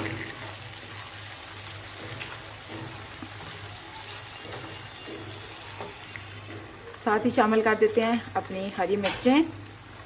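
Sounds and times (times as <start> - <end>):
spatula stirring in a pan: 0.0 - 10.0
vegetables sizzling in hot oil: 0.0 - 10.0.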